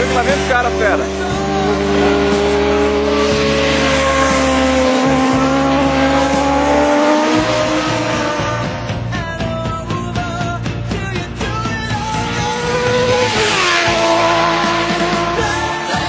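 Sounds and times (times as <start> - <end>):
music: 0.0 - 16.0
racing motorcycle engines: 0.0 - 16.0.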